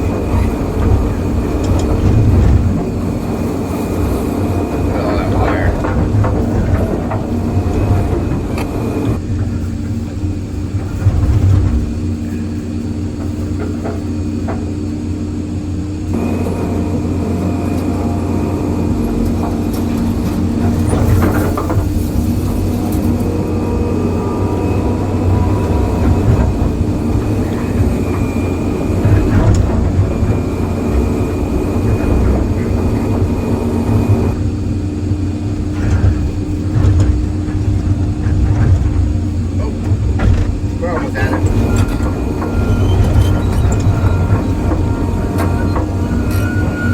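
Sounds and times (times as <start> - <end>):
excavator engine under load: 0.0 - 46.9.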